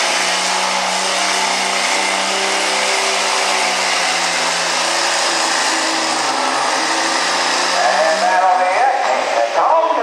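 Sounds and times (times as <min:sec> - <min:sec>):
diesel truck engine at high revs: 0:00.0 - 0:10.0.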